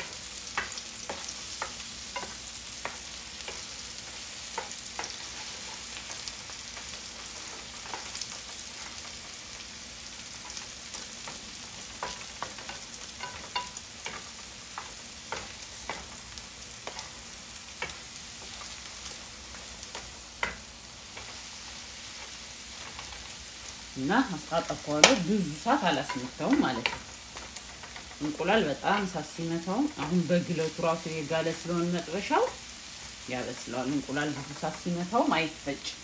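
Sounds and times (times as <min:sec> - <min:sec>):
eggs sizzling in oil: 0:00.0 - 0:36.0.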